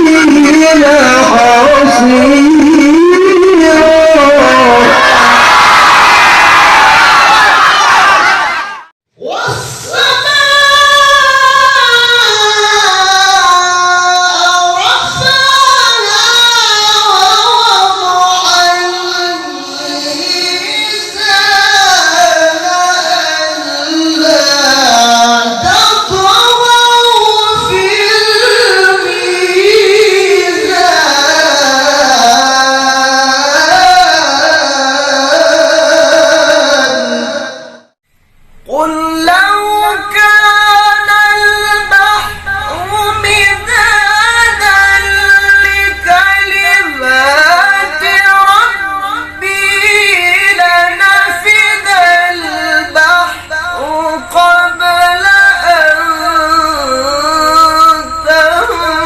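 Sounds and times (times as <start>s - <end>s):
man reciting melodically: 0.0s - 5.4s, 9.2s - 38.0s, 38.6s - 59.0s.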